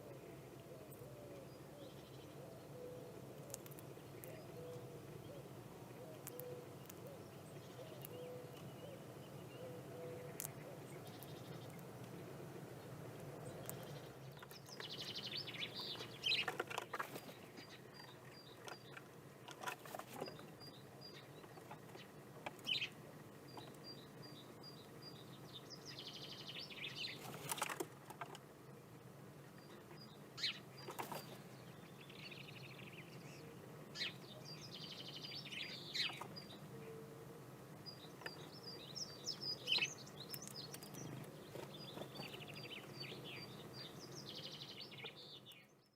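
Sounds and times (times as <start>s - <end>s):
wild birds chirping: 0.0s - 45.9s.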